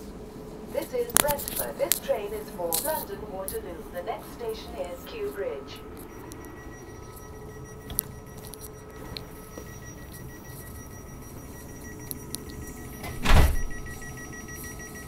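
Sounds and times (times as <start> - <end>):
electric train running hum: 0.0 - 15.0
electrical whines: 0.0 - 15.0.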